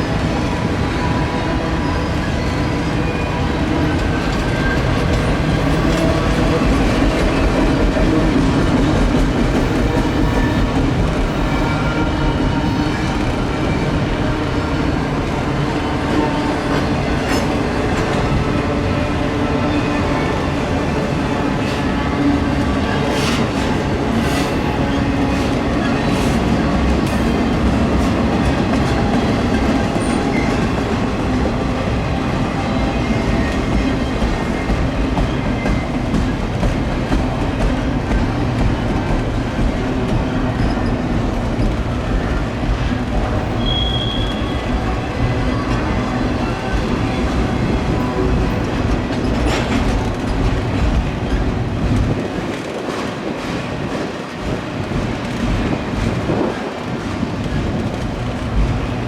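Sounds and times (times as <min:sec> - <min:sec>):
freight train wheels rumbling on rails: 0:00.0 - 0:59.0
rail clicks: 0:02.0 - 0:59.0.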